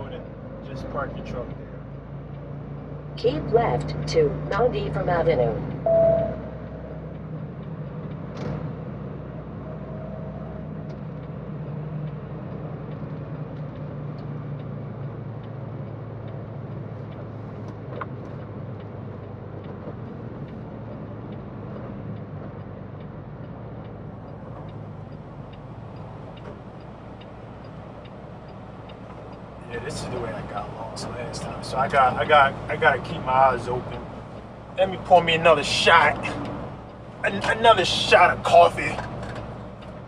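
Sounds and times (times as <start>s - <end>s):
truck engine and road noise: 0.0s - 40.0s.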